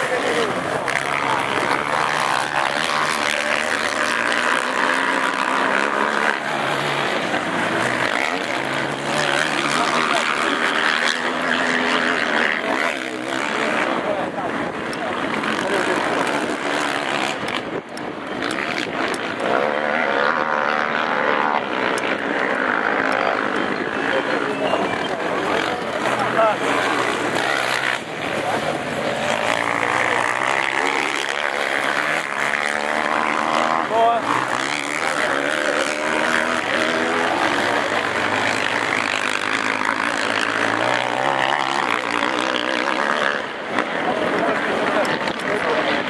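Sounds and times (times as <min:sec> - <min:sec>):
quad engines revving: 0:00.0 - 0:46.0.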